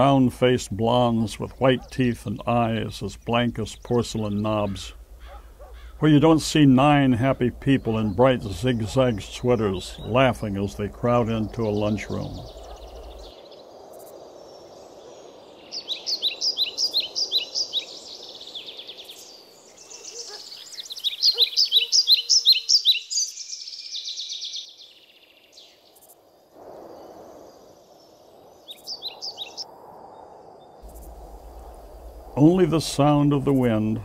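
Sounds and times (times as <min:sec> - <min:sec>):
outdoor ambience hiss: 0:00.0 - 0:34.0
songbird chirping: 0:00.0 - 0:34.0.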